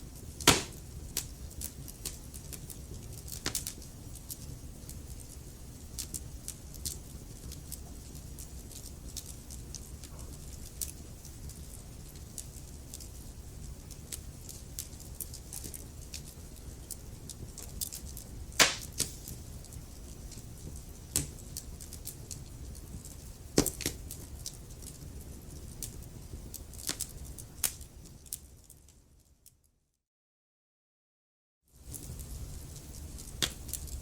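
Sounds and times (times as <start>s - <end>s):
wood fire crackling: 0.0s - 29.4s, 31.8s - 34.0s.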